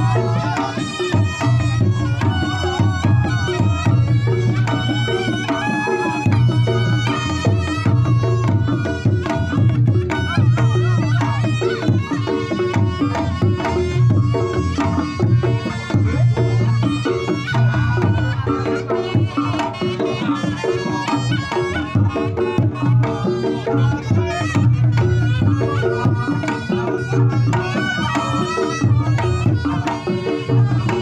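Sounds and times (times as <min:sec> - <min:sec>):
hand drums playing: 0:00.0 - 0:31.0
wavering reed pipe melody: 0:00.0 - 0:31.0.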